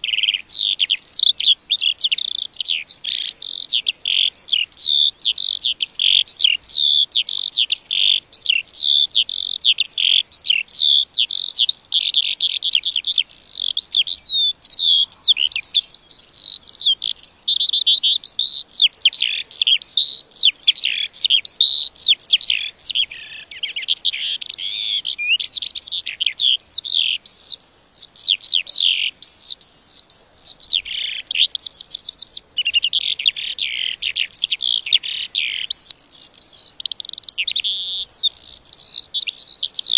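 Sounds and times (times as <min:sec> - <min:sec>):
lark singing: 0:00.0 - 0:39.9.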